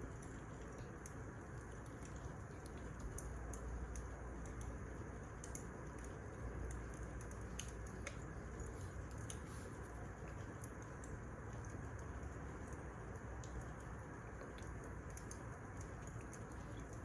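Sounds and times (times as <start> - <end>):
wood fire crackling: 0.1 - 17.0.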